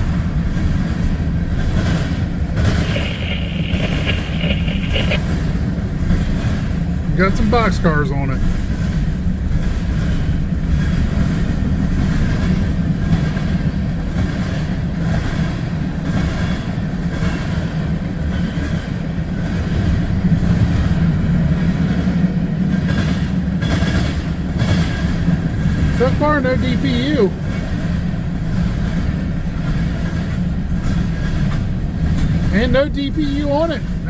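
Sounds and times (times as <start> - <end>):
freight train cars rolling past: 0.0 - 34.0.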